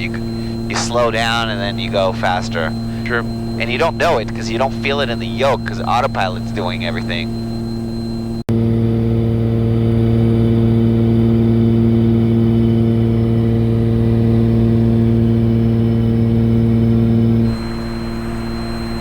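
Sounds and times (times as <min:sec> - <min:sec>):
aircraft cabin engine drone: 0:00.0 - 0:19.0.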